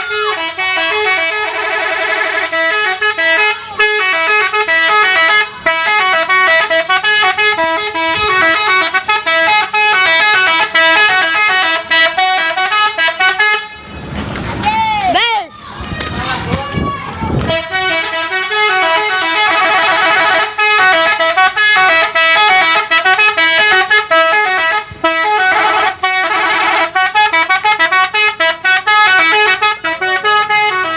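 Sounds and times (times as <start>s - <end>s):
multi-tone air horns playing tune: 0.0s - 13.9s, 17.5s - 30.9s.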